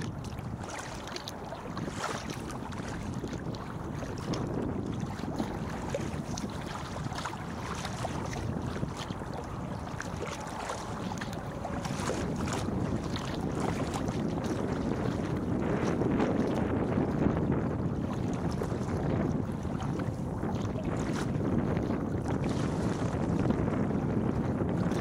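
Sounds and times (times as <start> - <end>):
paddle splashes: 0.0 - 25.0
water lapping against hull: 0.0 - 25.0
wind buffeting microphone: 0.0 - 25.0.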